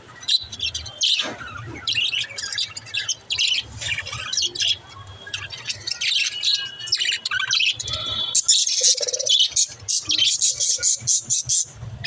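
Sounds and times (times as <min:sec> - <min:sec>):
budgerigars chirping and chattering: 0:00.1 - 0:12.0.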